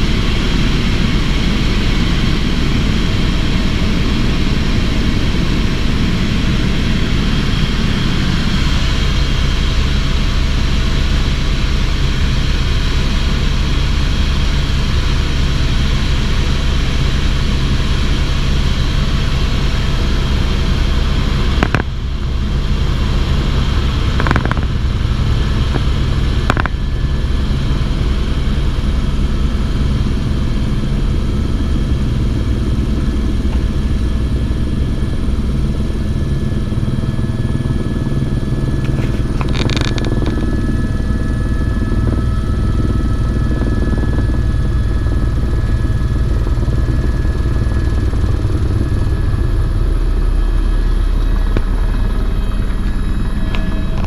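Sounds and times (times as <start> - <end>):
helicopter rotor and engine noise: 0.0 - 54.0.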